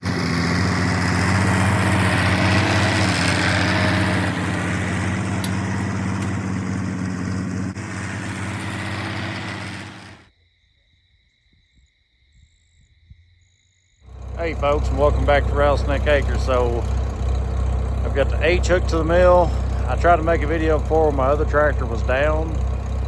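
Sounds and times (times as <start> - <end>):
tractor engine running: 0.0 - 10.2, 14.1 - 23.0.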